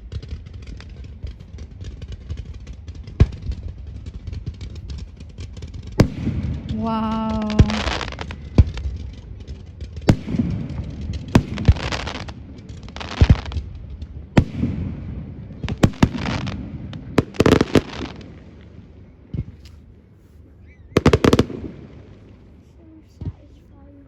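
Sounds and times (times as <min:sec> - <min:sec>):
fireworks exploding: 0:00.0 - 0:19.7, 0:20.9 - 0:23.6
fireworks crackling: 0:00.0 - 0:19.8, 0:21.0 - 0:23.9.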